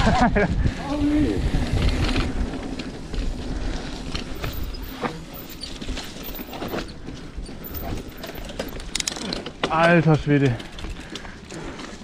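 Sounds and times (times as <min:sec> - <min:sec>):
bike tyres rumbling on dirt trail: 0:00.0 - 0:12.0.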